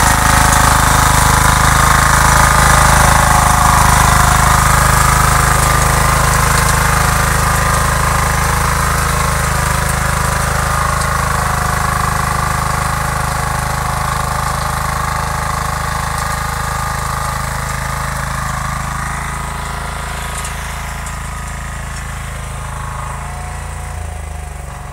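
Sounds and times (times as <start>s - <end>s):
power tiller engine running: 0.0s - 24.9s
tines churning soil: 0.0s - 24.9s.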